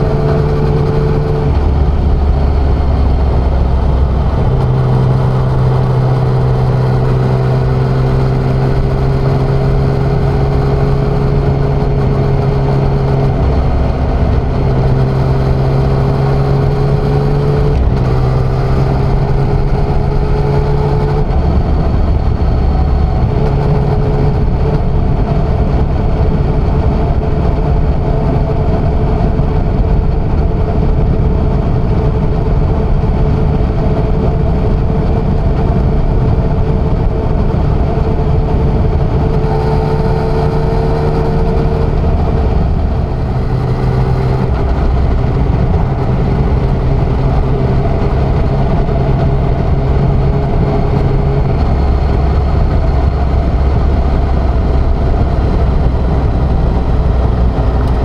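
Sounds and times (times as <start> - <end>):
motorcycle engine running: 0.0 - 58.0
road noise: 0.0 - 58.0
wind noise: 0.0 - 58.0.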